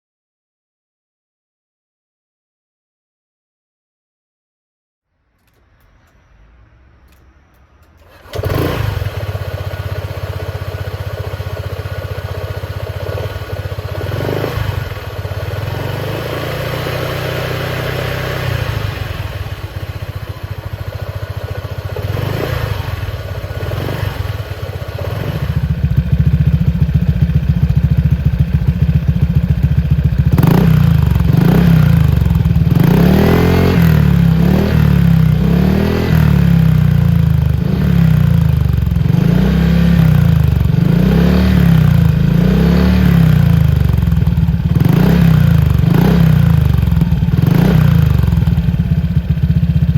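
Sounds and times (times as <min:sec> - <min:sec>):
scooter engine starting: 0:07.9 - 0:49.9
scooter engine idling: 0:08.0 - 0:35.4, 0:36.4 - 0:41.0, 0:41.7 - 0:49.9
scooter engine revving: 0:08.0 - 0:49.9.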